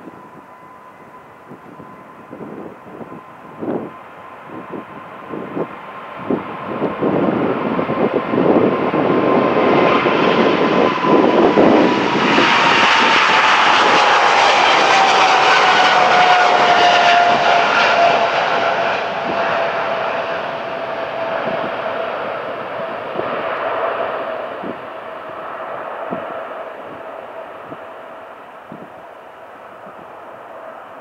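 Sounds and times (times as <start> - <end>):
jet engine whine: 0.0 - 31.0
jet engines roaring at take-off: 0.0 - 31.0.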